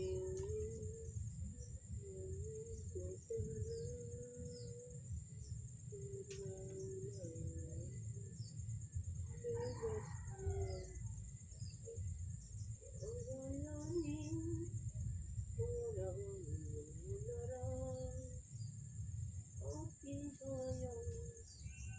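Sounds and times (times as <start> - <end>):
insect drone: 0.0 - 21.9.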